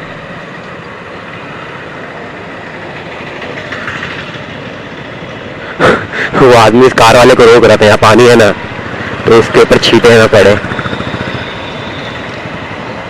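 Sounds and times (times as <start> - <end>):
motorcycle road and wind noise: 0.0 - 13.0.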